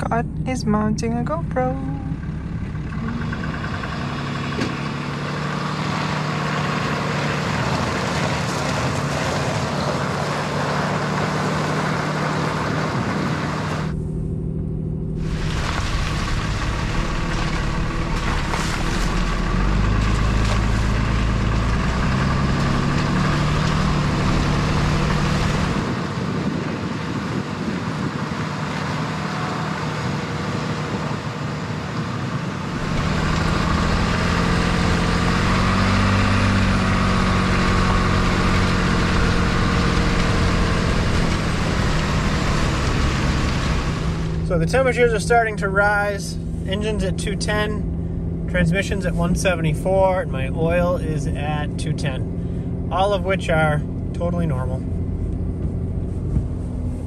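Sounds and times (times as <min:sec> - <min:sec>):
pickup engine drone: 0:00.0 - 0:57.0.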